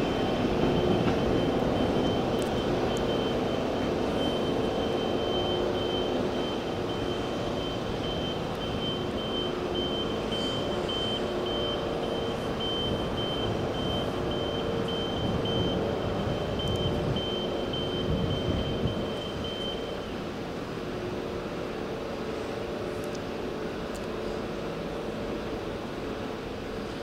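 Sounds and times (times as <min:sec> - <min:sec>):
diesel train engine running: 0:00.0 - 0:27.0.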